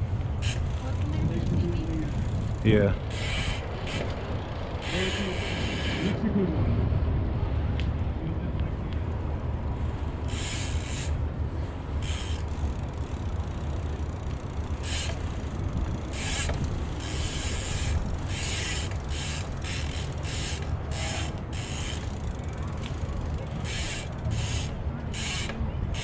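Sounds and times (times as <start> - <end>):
steady low rumble: 0.0 - 26.0
bicycle freewheel ticking: 0.3 - 6.2, 10.2 - 11.2, 11.8 - 26.0.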